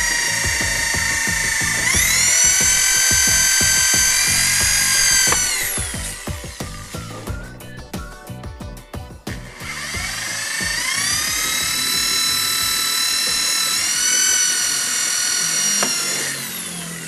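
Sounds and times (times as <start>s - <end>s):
electric drill whining: 0.0s - 8.2s, 9.2s - 17.0s.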